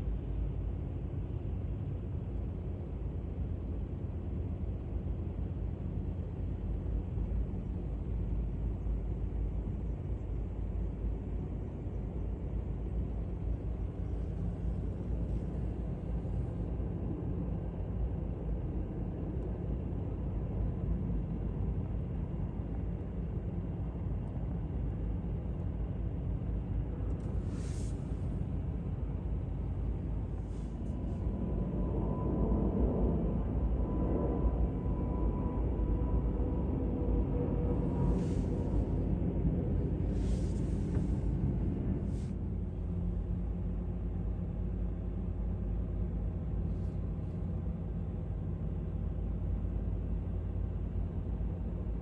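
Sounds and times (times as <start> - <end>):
low airport rumble: 0.0 - 52.0.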